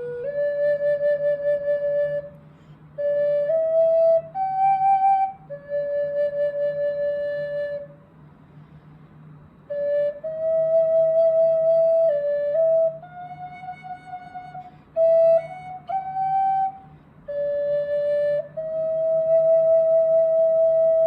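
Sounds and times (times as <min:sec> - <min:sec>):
solo flute melody: 0:00.0 - 0:08.2, 0:09.6 - 0:21.0.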